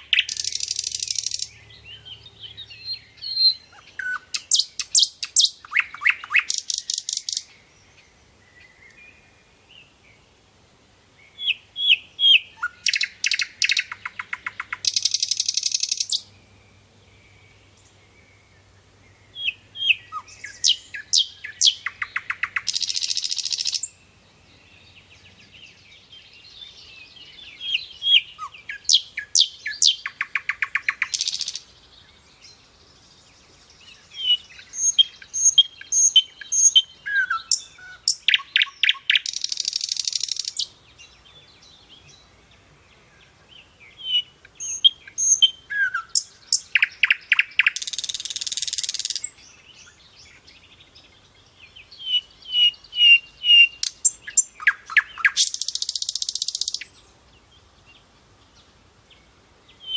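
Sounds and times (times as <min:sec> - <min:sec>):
nightingale singing: 0:00.0 - 0:10.3, 0:11.1 - 0:59.9.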